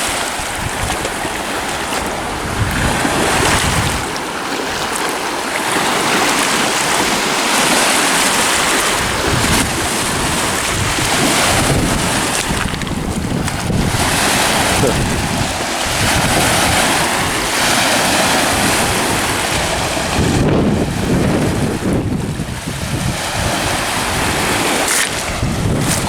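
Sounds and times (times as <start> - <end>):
waves washing onto shore: 0.0 - 26.0
wind buffeting microphone: 0.0 - 26.0.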